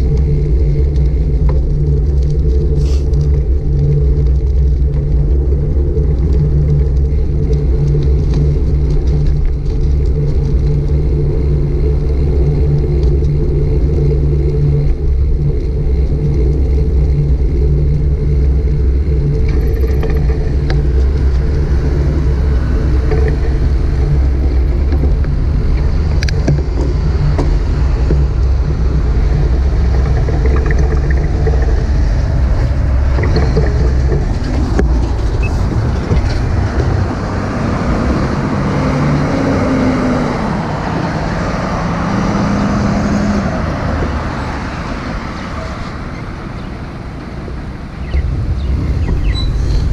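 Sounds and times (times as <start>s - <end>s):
road noise: 0.0s - 49.9s
traffic noise: 0.0s - 49.9s
wind rumble on microphone: 0.0s - 49.9s.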